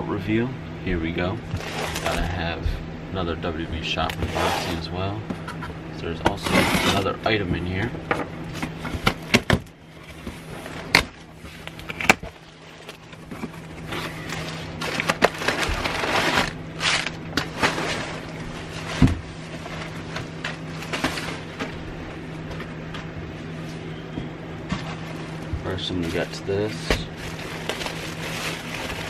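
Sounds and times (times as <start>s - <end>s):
steady low hum: 0.0s - 29.0s
cardboard and plastic rustling: 1.4s - 2.7s, 4.0s - 5.5s, 8.5s - 29.0s.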